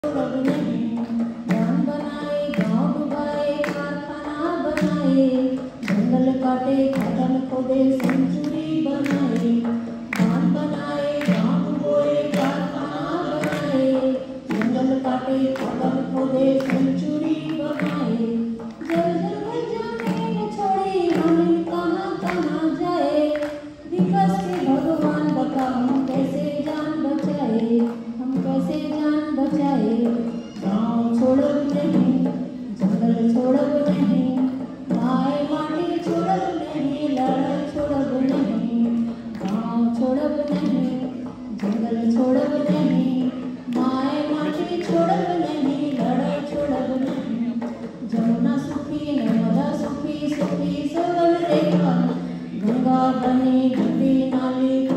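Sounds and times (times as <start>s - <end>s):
hand drum beats: 0.0s - 54.9s
person singing a melody: 0.0s - 54.9s.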